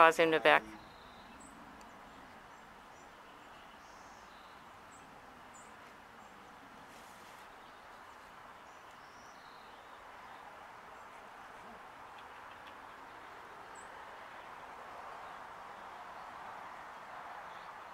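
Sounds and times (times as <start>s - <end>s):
steady outdoor hiss: 0.0s - 17.9s.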